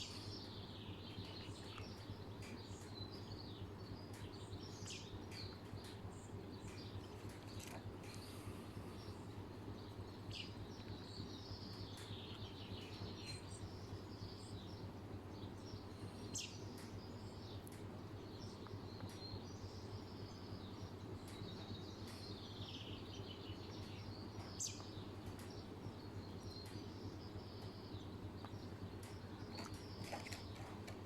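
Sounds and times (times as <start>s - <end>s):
birds chirping: 0.0s - 31.0s
steady low hum: 0.0s - 31.0s.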